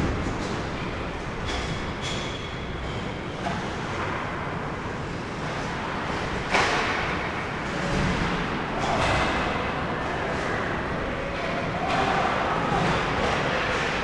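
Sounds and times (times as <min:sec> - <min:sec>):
ice rink noise: 0:00.0 - 0:14.0.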